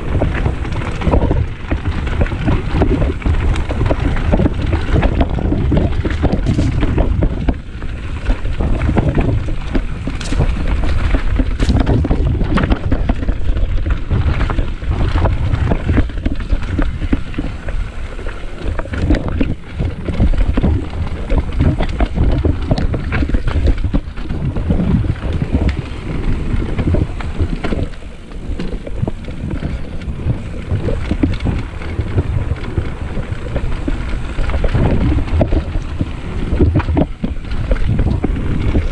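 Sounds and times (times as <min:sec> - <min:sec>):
bike rattling on rough trail: 0:00.0 - 0:38.9
wind rumbling over microphone: 0:00.0 - 0:38.9.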